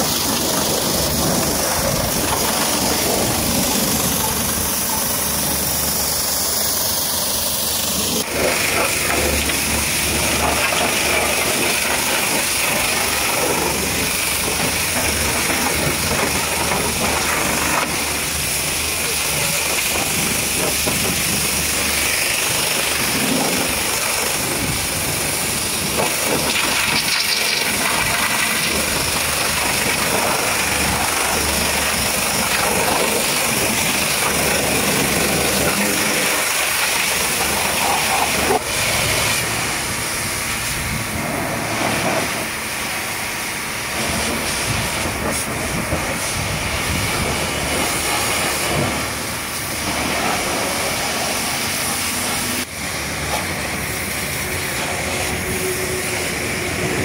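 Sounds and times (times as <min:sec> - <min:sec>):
water jet spraying: 0:00.0 - 0:57.0.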